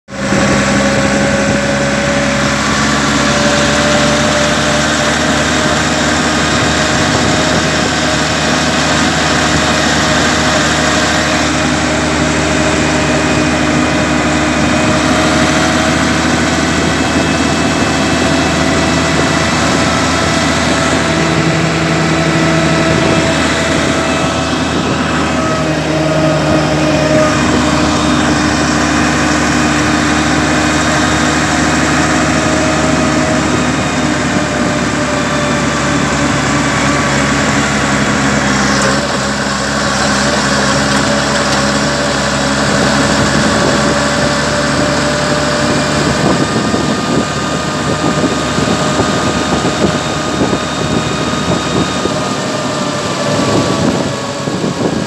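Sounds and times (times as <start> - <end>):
tractor diesel engine running: 0.0 - 55.0
whining tones: 0.1 - 55.0.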